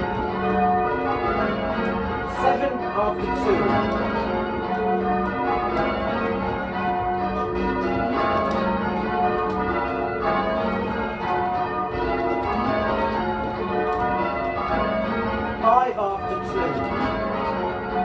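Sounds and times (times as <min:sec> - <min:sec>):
church bells ringing changes: 0:00.0 - 0:18.0.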